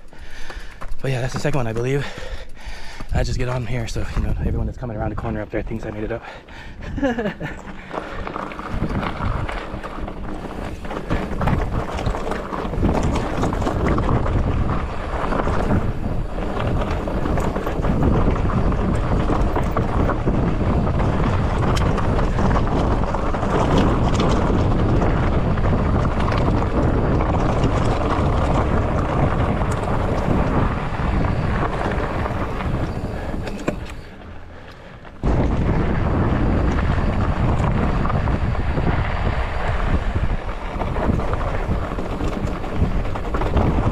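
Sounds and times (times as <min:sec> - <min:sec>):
bike knocks and rattles: 0:00.0 - 0:02.2, 0:06.9 - 0:39.0, 0:39.6 - 0:43.9
wind rushing over microphone: 0:00.0 - 0:43.9.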